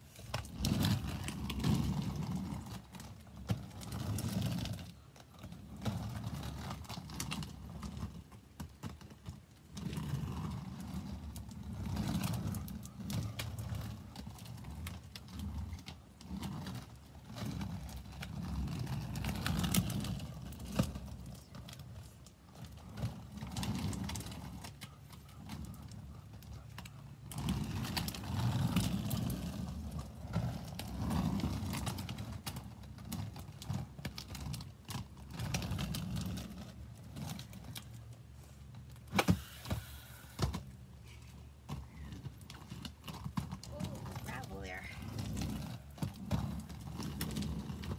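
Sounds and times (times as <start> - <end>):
skate wheels rumbling on paving: 0.0 - 47.9.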